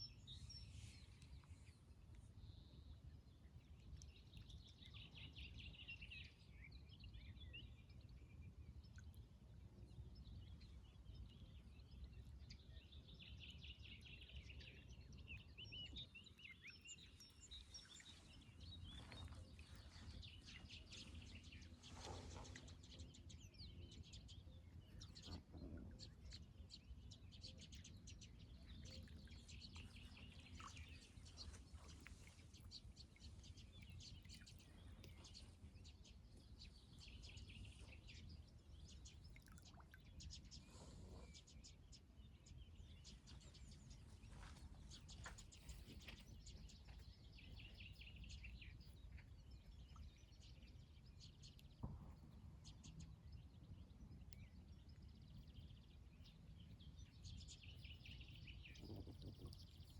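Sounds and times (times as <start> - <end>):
faint songbirds chirping: 0.0 - 59.9.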